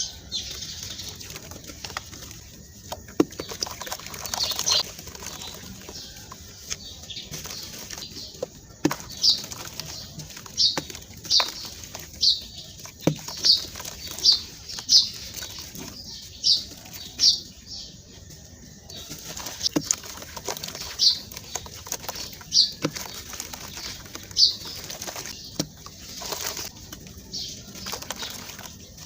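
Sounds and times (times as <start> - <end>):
sharp crunches: 0.0 - 16.2, 18.9 - 29.0
gritty rustle of crumbling sand: 0.0 - 29.0.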